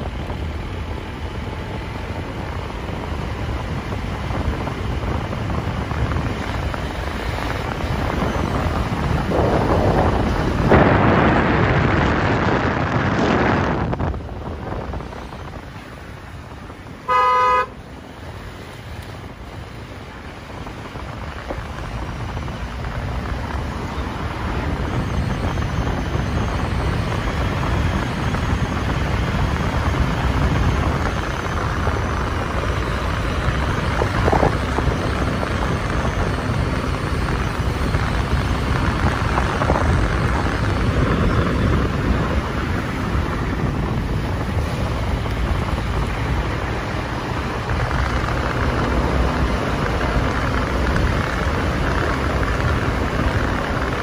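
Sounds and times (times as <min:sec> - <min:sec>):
wind on microphone: 0:00.0 - 0:17.7, 0:18.3 - 0:54.0
road rumble: 0:00.0 - 0:54.0
vehicle engine: 0:00.0 - 0:54.0.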